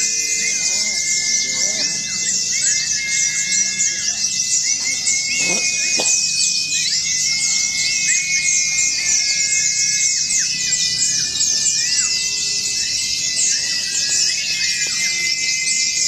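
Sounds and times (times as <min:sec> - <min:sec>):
birds twittering chorus: 0:00.0 - 0:16.0
whistled bird notes: 0:00.0 - 0:16.0.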